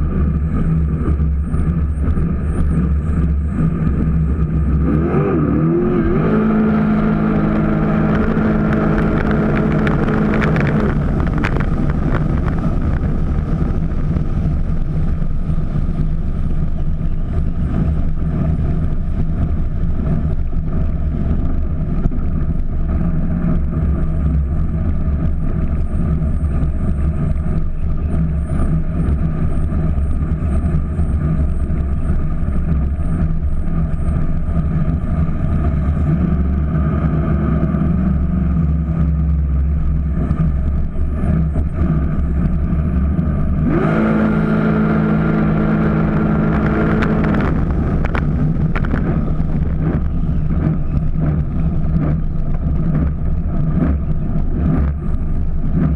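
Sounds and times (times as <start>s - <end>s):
boat engine revving: 0.0s - 55.9s
rush of wind and water: 0.0s - 55.9s.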